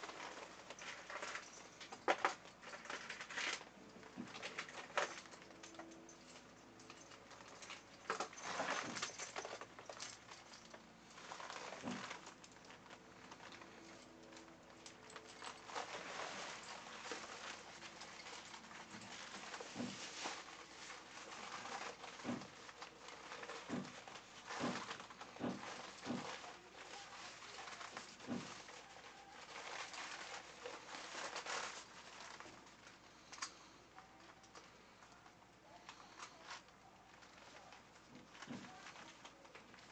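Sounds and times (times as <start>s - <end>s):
plastic costume rustling: 0.0s - 39.9s.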